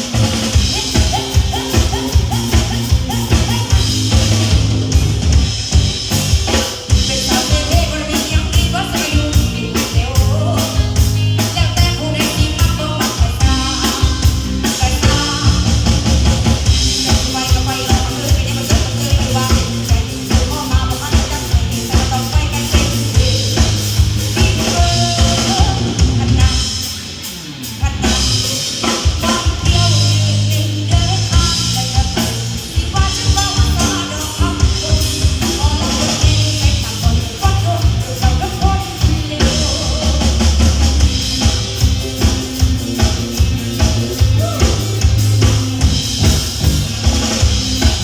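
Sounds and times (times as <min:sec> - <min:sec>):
drum kit beat: 0:00.0 - 0:48.0
live band music: 0:00.0 - 0:48.0.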